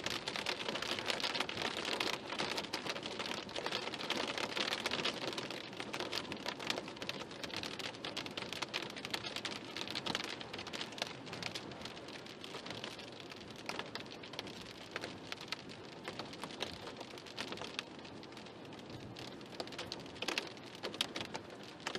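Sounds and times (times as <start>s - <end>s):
heavy rain on a car: 0.0s - 21.9s.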